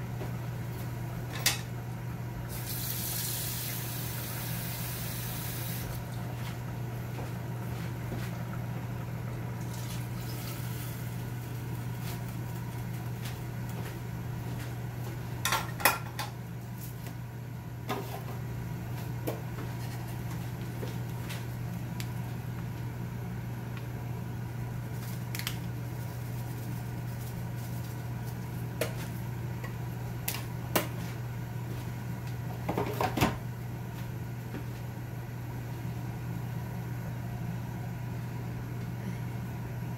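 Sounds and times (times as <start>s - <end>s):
low kitchen hum: 0.0s - 39.9s.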